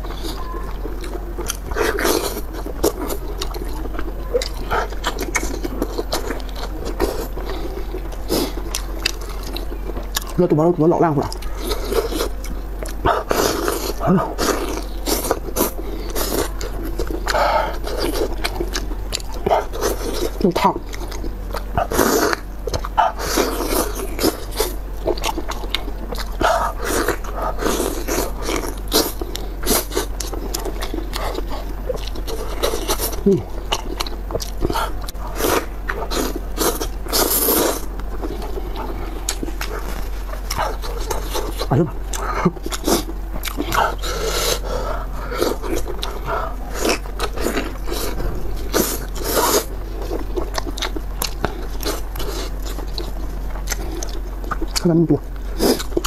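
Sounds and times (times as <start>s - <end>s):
slurping: 0.0s - 54.8s
low steady hum: 0.0s - 56.0s
wet eating and chewing: 0.0s - 56.0s.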